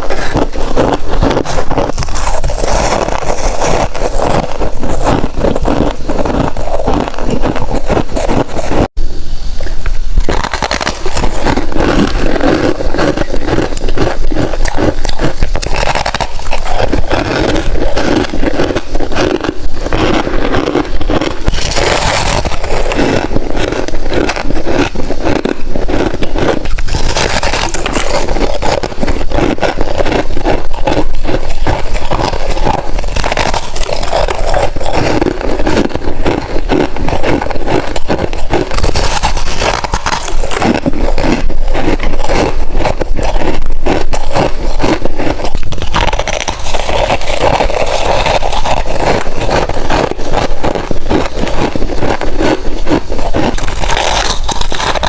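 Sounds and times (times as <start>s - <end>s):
frost being chewed crunching: 0.0s - 9.0s, 10.2s - 55.0s.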